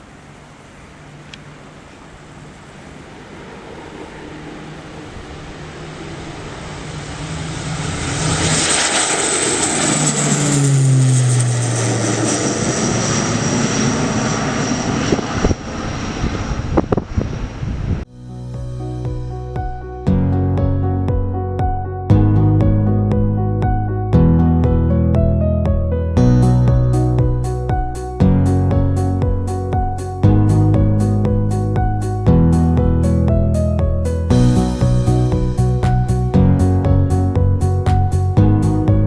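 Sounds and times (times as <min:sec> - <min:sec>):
propeller aircraft flying past: 0:00.0 - 0:20.1, 0:26.4 - 0:39.0.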